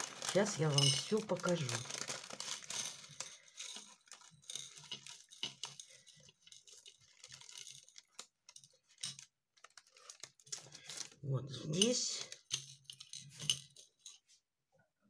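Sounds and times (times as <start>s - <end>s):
plastic bag crinkling: 0.0s - 13.9s
beads rattling and clicking: 0.0s - 14.2s.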